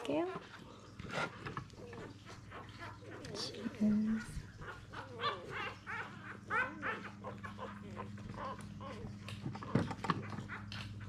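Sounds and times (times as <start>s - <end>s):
puppies squeaking and whimpering: 0.1s - 11.0s.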